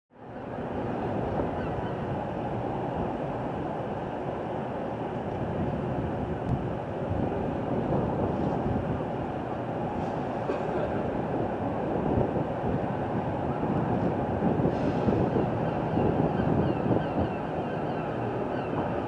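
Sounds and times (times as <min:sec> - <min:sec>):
outdoor ambient noise: 0:00.1 - 0:19.0.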